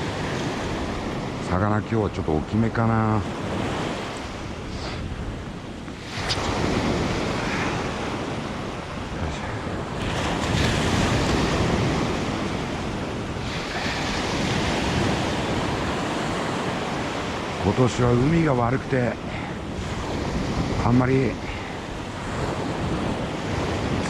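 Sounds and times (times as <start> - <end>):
sea surf breaking on beach: 0.0 - 24.0
wind buffeting microphone: 0.0 - 24.0.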